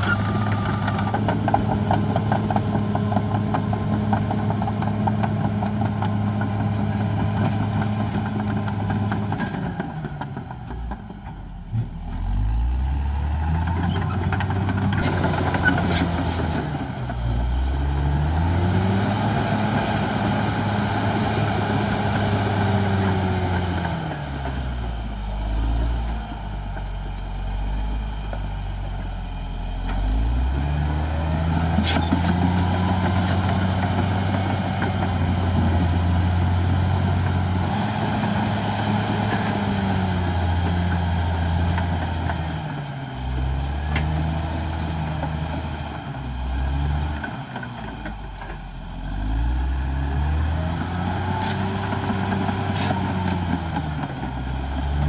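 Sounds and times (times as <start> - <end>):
bulldozer diesel engine revving: 0.0 - 55.0.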